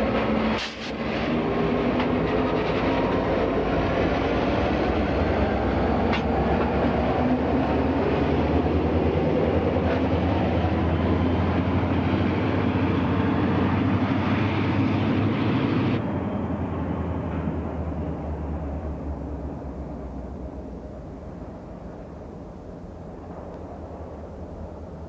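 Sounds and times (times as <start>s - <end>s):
locomotive engines droning: 0.0s - 25.0s.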